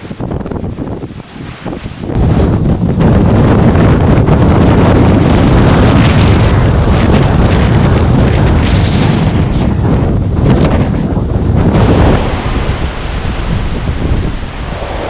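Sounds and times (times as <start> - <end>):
strong wind gusting on microphone: 0.0 - 15.0.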